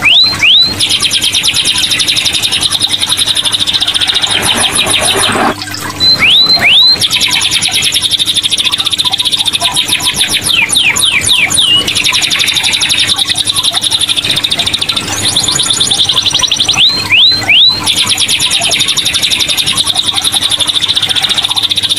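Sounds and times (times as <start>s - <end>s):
canary singing trills: 0.0s - 21.9s.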